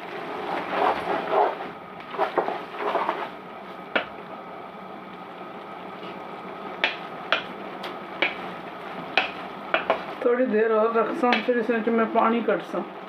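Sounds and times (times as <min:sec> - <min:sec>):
pot simmering with bubbling hiss: 0:00.0 - 0:13.0.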